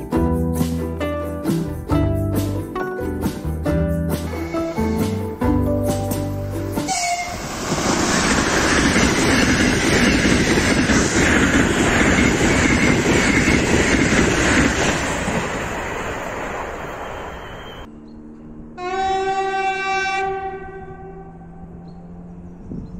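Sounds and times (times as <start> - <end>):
electric train passing at speed: 2.4 - 22.9.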